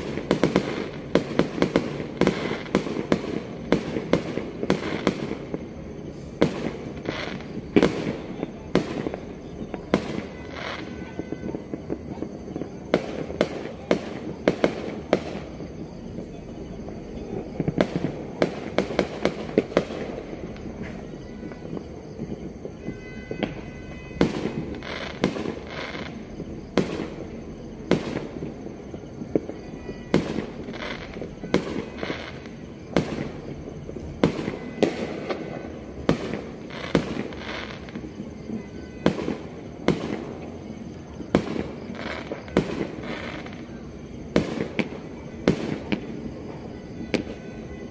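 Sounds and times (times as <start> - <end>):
continuous crackling: 0.0 - 47.9
fireworks bangs and pops: 0.0 - 47.9.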